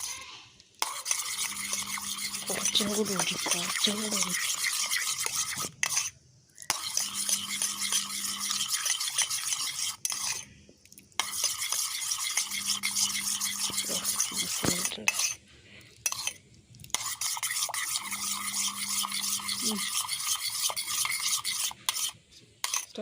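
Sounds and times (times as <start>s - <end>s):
spoon stirring in a small vessel: 0.0s - 0.2s, 0.8s - 23.0s.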